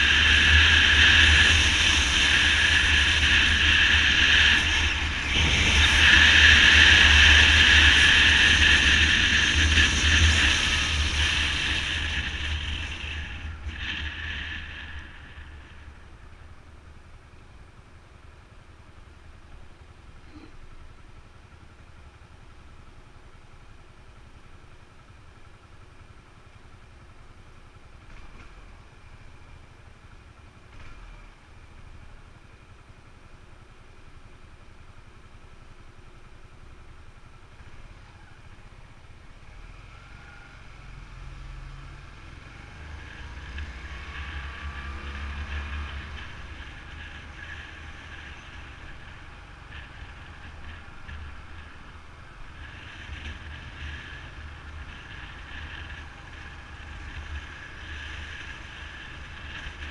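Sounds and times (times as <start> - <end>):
motorcycle engine idling: 0.0 - 59.9
wind and road noise: 0.0 - 59.9.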